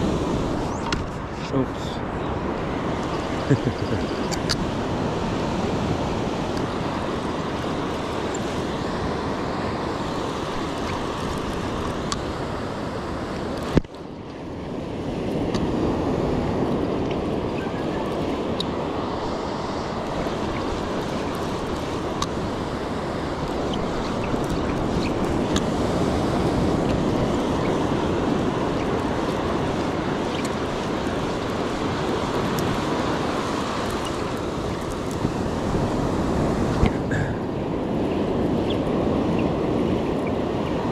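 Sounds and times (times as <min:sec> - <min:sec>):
ocean surf washing up: 0:00.0 - 0:40.9
wind buffeting microphone: 0:00.0 - 0:40.9.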